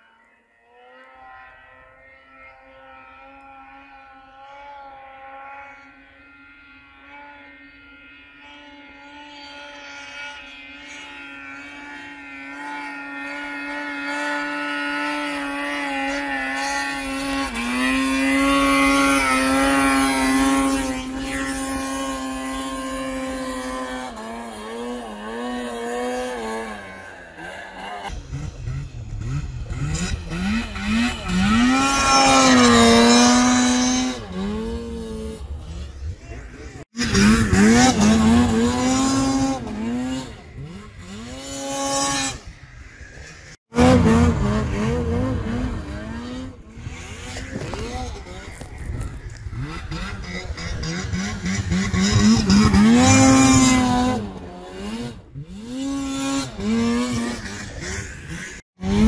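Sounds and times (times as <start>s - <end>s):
snowmobile engine revving: 0.0s - 59.0s
snowmobile engine running: 0.0s - 59.0s.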